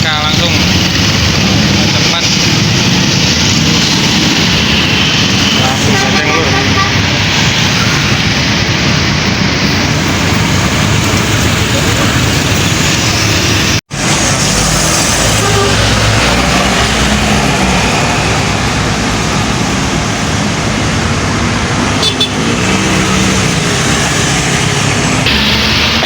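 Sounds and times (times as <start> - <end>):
buses passing: 0.0 - 26.0
road traffic: 0.0 - 26.0.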